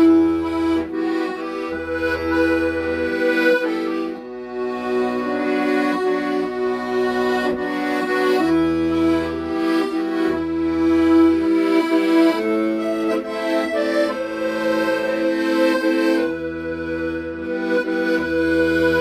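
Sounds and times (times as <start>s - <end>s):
accordion playing slow melody: 0.0s - 19.0s.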